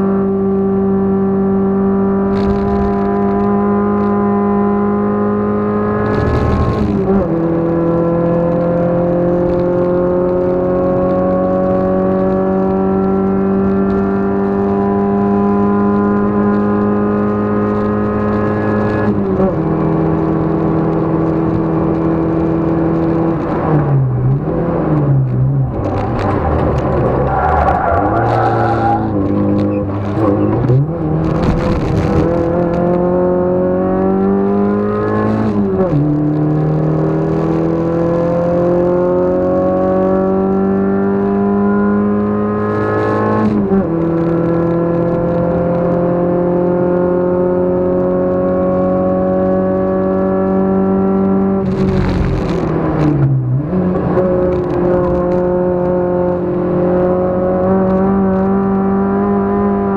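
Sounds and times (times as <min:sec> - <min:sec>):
race car engine from cabin: 0:00.0 - 0:59.9.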